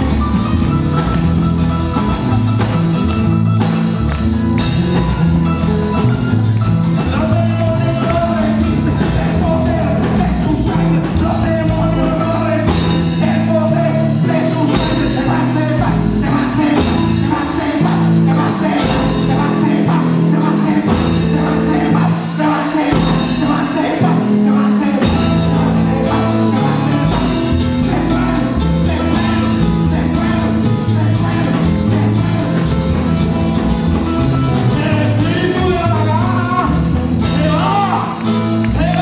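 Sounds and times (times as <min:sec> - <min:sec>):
live band playing: 0:00.0 - 0:39.0
man singing: 0:06.8 - 0:39.0.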